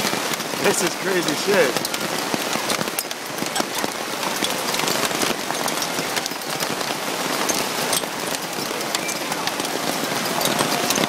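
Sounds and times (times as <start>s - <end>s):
hail pelting down: 0.0s - 11.0s.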